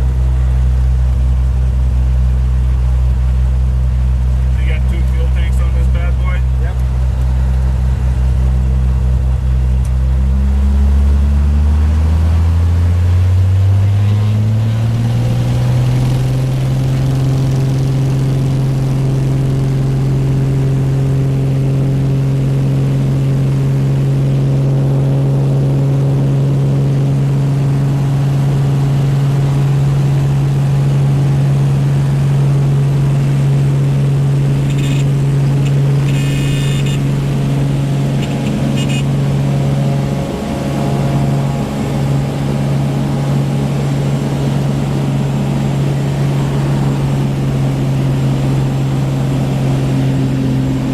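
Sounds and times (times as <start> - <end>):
propeller plane engine drone: 0.0 - 50.9.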